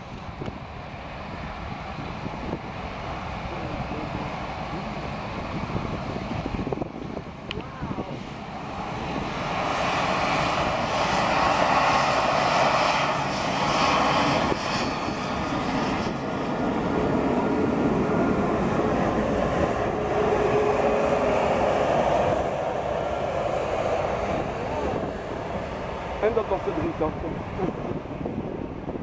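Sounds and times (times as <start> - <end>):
jet engine whine: 0.0 - 29.0
jet engines rushing: 0.0 - 29.0.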